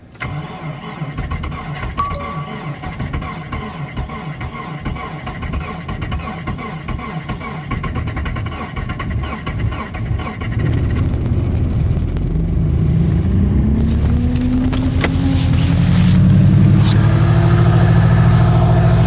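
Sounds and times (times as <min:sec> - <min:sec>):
car engine starting and revving: 0:03.5 - 0:19.0.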